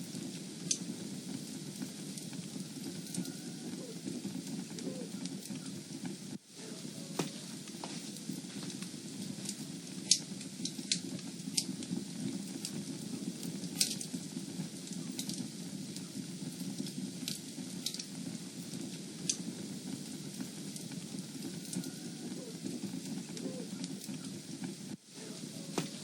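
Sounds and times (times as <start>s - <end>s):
fire crackling in fireplace: 0.0s - 26.0s.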